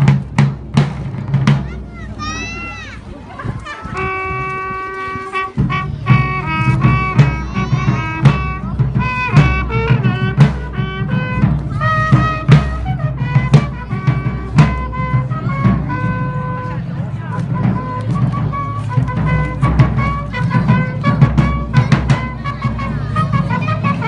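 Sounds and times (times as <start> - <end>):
drum beat: 0.0 - 3.0, 3.6 - 24.0
brass melody: 3.6 - 24.0.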